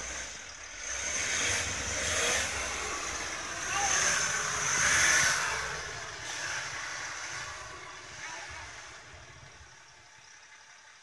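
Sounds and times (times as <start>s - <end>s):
engine running under load: 0.0s - 11.0s
tyres churning through snow: 0.0s - 11.0s.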